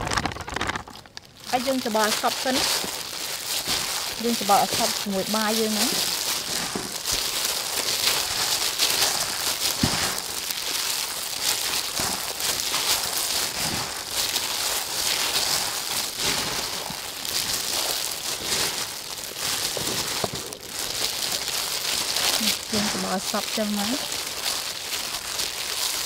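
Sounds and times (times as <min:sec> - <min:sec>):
plastic gloves rustling: 0:00.0 - 0:26.0
rice mixture being squeezed: 0:00.0 - 0:26.0.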